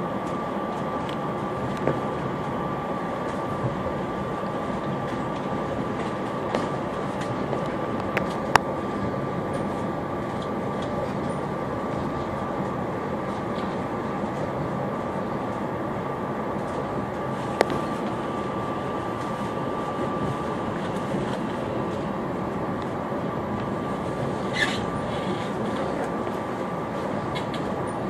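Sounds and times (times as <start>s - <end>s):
railcar running rumble: 0.0s - 28.0s
steady high hum: 0.0s - 28.0s.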